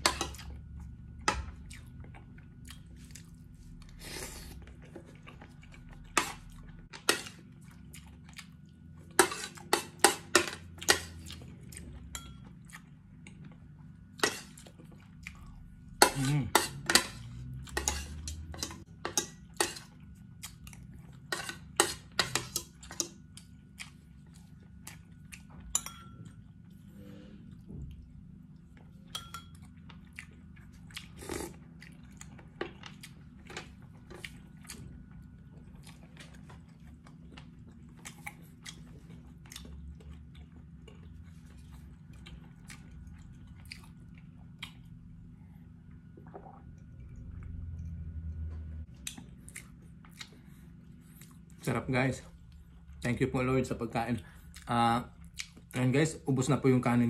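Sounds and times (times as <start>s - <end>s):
chewing: 1.2s - 51.6s, 54.2s - 55.8s.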